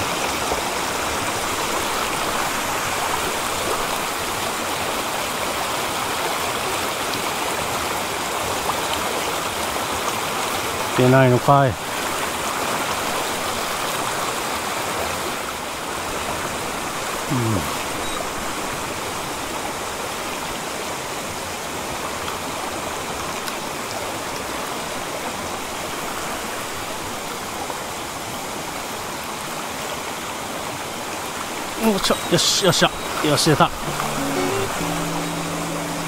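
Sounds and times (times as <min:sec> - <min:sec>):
stream flowing over rocks: 0:00.0 - 0:36.0.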